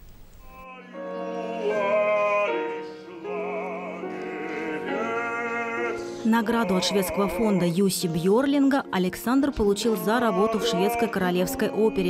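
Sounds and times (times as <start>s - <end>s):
piano: 0.0s - 12.0s
operatic tenor singing: 0.4s - 12.0s.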